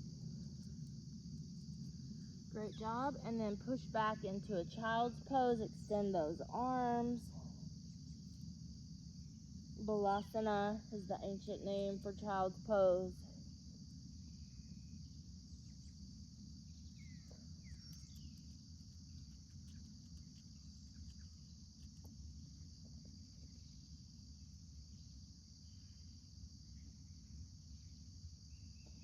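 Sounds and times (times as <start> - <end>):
insect chorus drone: 0.0 - 29.0.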